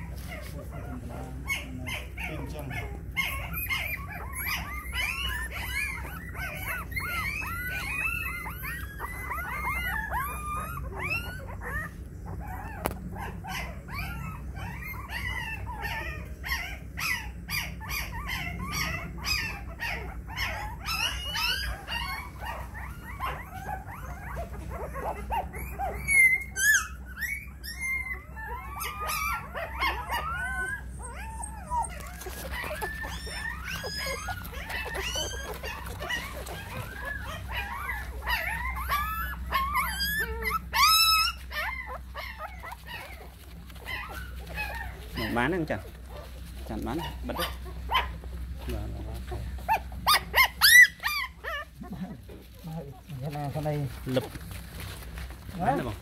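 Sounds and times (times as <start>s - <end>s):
puppies whimpering and squealing: 0.0s - 56.0s.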